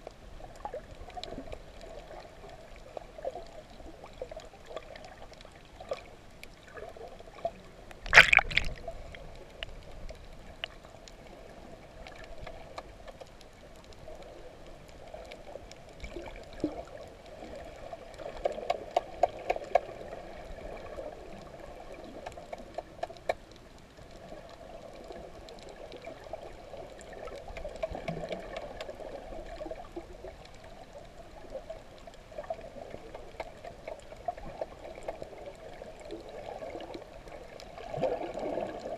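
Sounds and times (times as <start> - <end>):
faint underwater clicks: 0.0 - 38.9
muffled underwater wash: 0.0 - 38.9.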